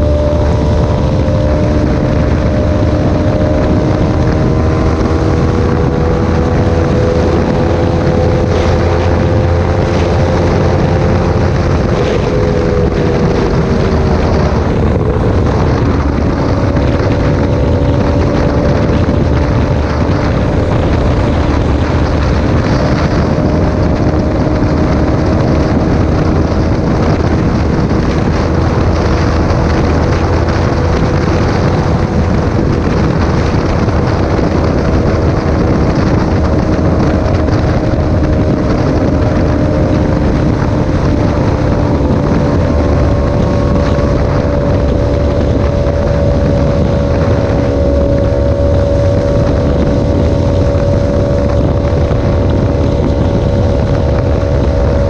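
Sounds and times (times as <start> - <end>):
motorcycle engine at highway speed: 0.0 - 55.0
wind rushing over microphone: 0.0 - 55.0.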